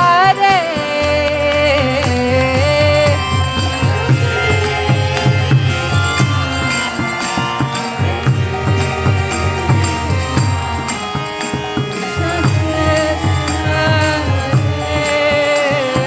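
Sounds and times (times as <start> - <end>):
light hand percussion: 0.0 - 16.0
person singing: 0.0 - 16.0
sustained instrumental drone: 0.0 - 16.0.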